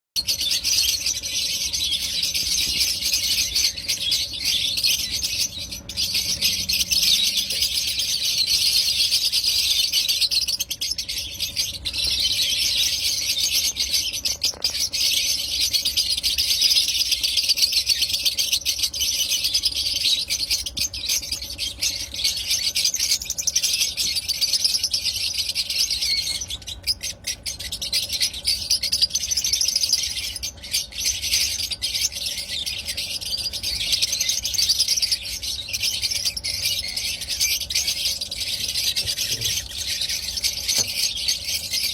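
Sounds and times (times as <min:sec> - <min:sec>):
lovebirds chattering: 0:00.2 - 0:41.9.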